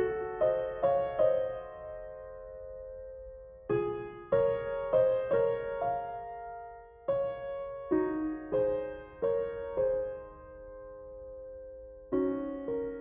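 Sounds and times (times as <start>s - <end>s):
gentle solo piano chords: 0.0s - 13.0s.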